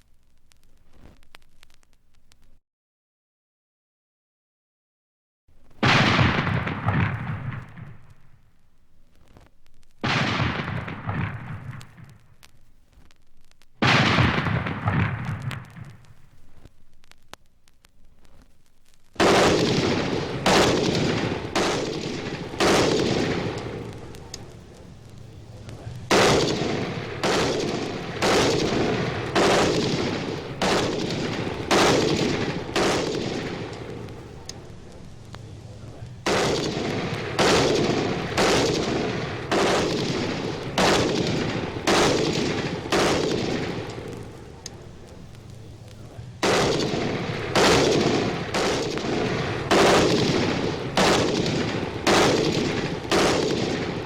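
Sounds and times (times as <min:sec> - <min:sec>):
loud sharp bangs with ringing tail: 0:05.7 - 0:09.1, 0:09.9 - 0:12.7, 0:13.5 - 0:17.2, 0:18.8 - 0:54.0.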